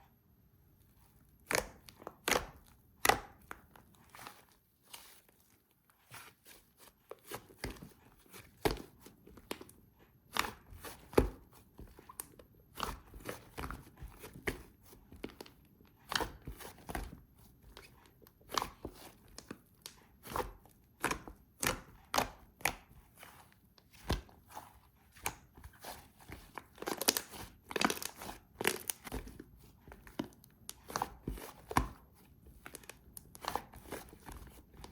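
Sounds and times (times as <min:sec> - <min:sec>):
slime squished by hand: 0:01.0 - 0:34.9.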